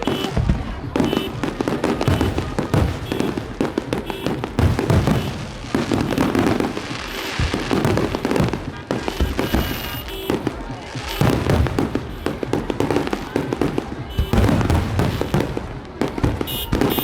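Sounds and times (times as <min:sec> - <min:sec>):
firecrackers crackling: 0:00.0 - 0:17.0
fireworks booming: 0:00.0 - 0:17.0.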